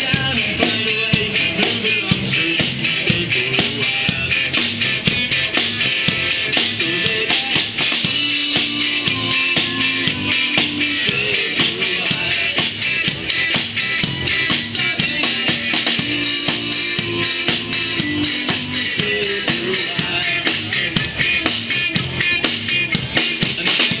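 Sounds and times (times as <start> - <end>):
drum kit beat: 0.0 - 24.0
live band playing: 0.0 - 24.0.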